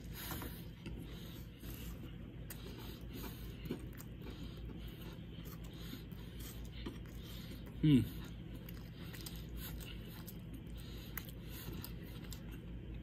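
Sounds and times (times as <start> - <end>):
low room hum: 0.0 - 13.0
person chewing crunchy food: 0.0 - 13.0.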